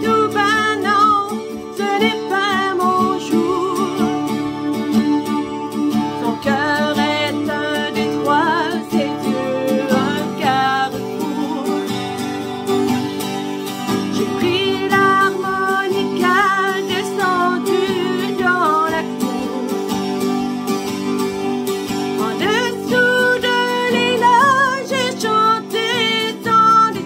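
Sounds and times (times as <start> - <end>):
woman singing with vibrato: 0.0 - 13.2, 13.9 - 20.5, 22.1 - 27.0
acoustic guitar strumming: 0.0 - 27.0.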